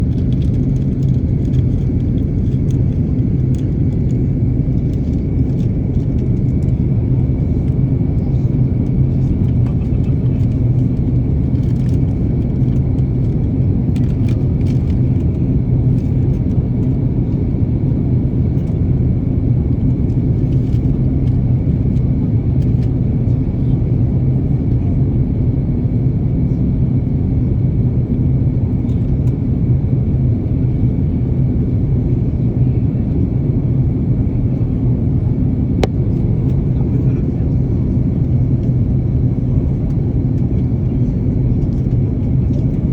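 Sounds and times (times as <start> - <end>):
airplane low rumble: 0.0 - 42.9.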